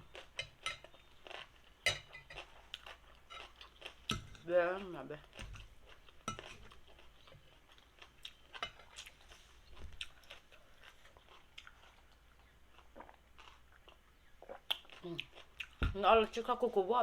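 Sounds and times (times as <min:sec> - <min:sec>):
person chewing food: 0:00.0 - 0:15.9.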